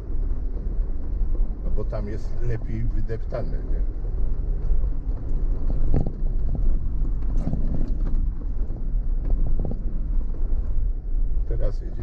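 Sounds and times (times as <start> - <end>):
vehicle engine and tyre rumble: 0.0 - 12.0
wheels knocking and rattling: 0.0 - 12.0.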